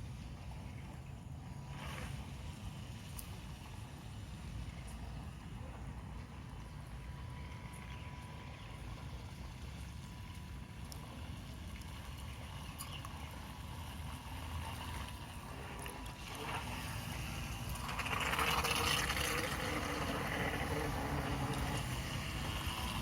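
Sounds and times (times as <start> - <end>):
water noise: 0.0 - 23.0.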